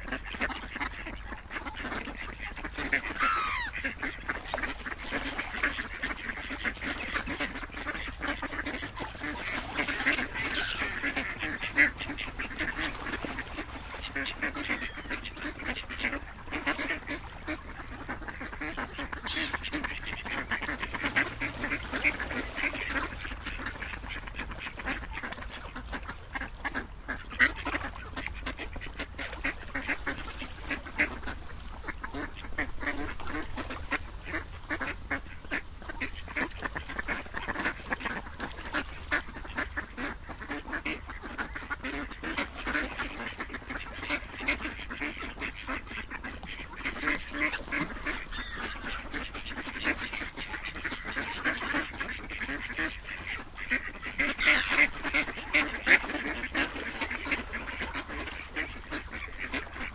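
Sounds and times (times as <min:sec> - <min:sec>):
ducks quacking: 0:00.0 - 0:59.9.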